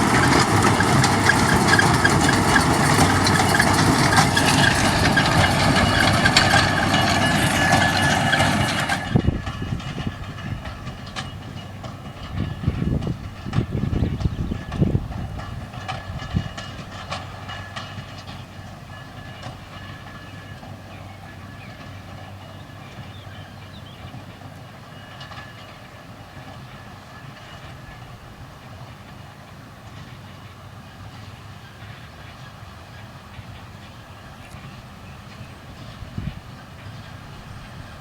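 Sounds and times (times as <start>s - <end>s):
clattering mechanical rumble: 0.0s - 38.0s.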